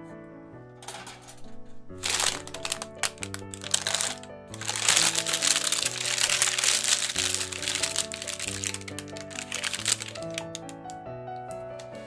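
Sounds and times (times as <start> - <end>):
background music: 0.0 - 12.0
baking paper crinkling: 0.9 - 11.0.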